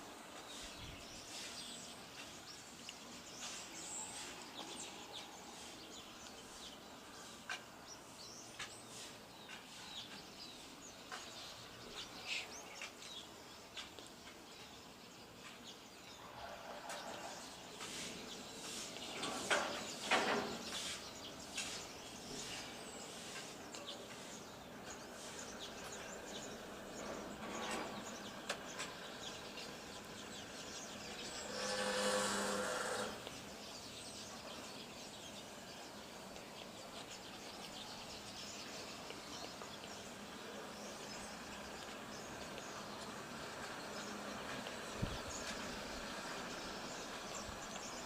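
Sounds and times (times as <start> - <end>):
birds chirping: 0.0 - 48.0
steady background hiss: 0.0 - 48.0.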